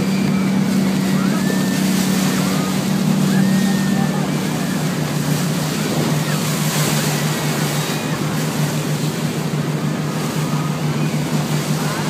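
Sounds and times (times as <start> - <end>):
motorboat engine running: 0.0 - 12.0
water noise: 0.0 - 12.0
wind: 0.0 - 12.0.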